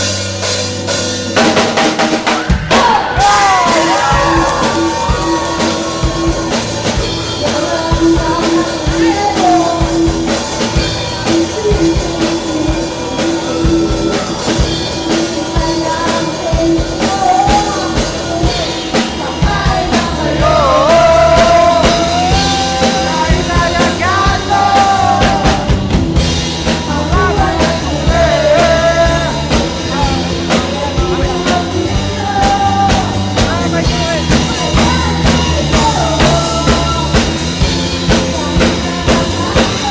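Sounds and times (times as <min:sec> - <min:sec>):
rock band playing live: 0:00.0 - 0:39.9
person singing: 0:02.7 - 0:26.0, 0:26.7 - 0:39.9.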